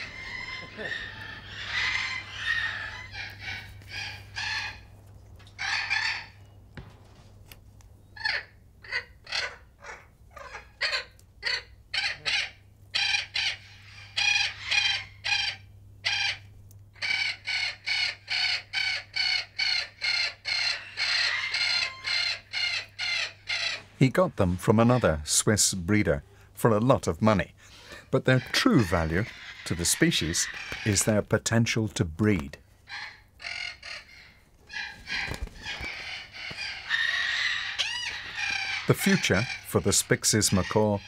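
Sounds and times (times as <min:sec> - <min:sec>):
macaws squawking: 0:00.0 - 0:06.9, 0:08.2 - 0:41.0.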